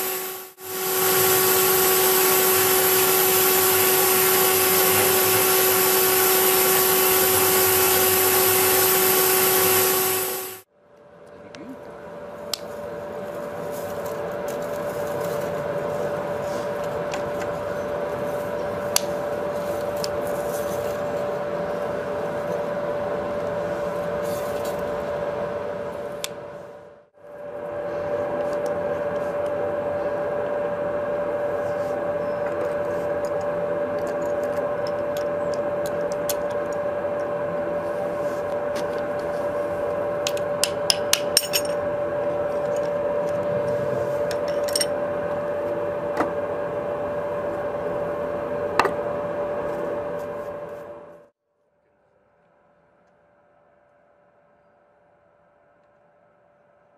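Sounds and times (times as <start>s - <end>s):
hydraulic power pack humming: 0.0s - 51.4s.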